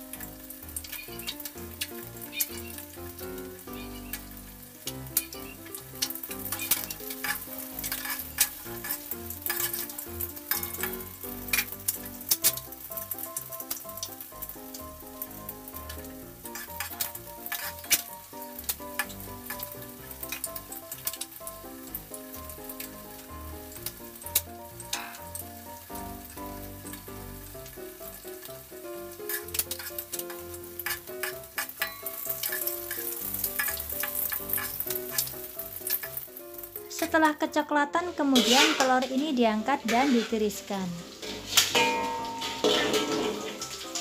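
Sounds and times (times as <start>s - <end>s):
metal spatula in wok: 0.0s - 37.2s, 38.1s - 44.0s
oil crackling pops: 0.0s - 37.2s, 41.1s - 44.0s
background music: 0.0s - 44.0s
eggs sizzling in hot oil: 0.0s - 44.0s.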